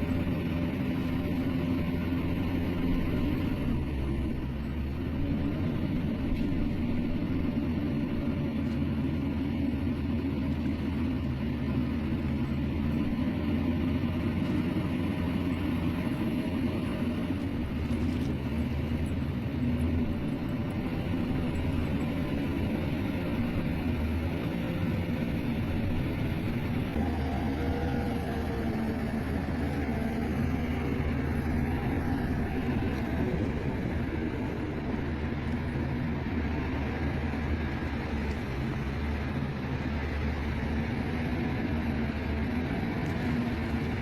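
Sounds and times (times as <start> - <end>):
heavy machinery diesel engine drone: 0.0 - 44.0.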